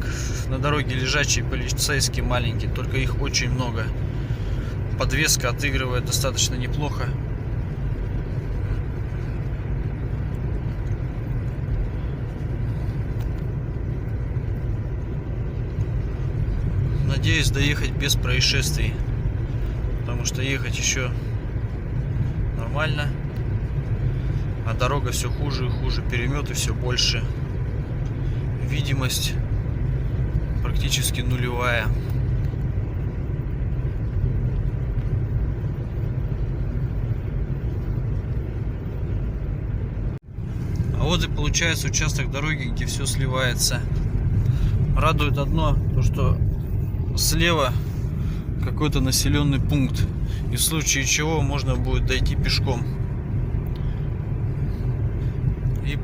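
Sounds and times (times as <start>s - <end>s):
engine and road noise in cabin: 0.0s - 56.0s.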